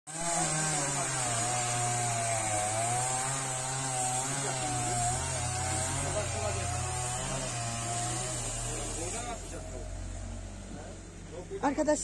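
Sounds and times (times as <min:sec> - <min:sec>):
small engine running: 0:00.1 - 0:12.0.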